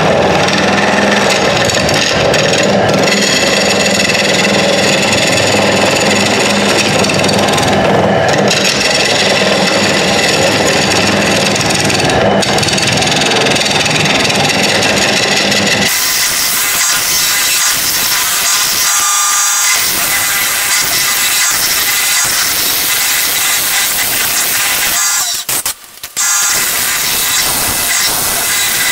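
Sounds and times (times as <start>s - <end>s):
cutter scraping wood on lathe: 0.0s - 28.9s
lathe motor hum: 0.0s - 28.9s.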